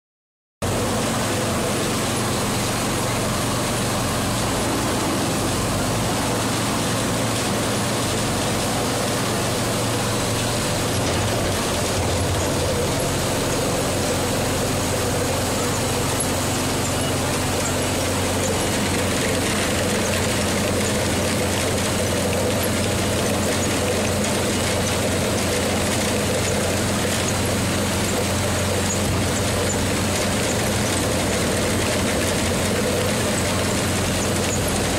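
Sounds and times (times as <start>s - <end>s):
diesel engine running: 0.6s - 34.9s
rollers of apple washing line: 0.6s - 34.9s.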